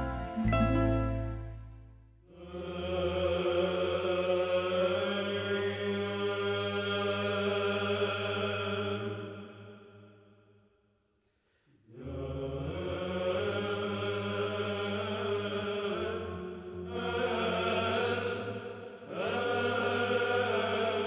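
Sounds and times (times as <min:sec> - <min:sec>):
slow chanting voices: 0:02.2 - 0:10.6, 0:11.4 - 0:21.0.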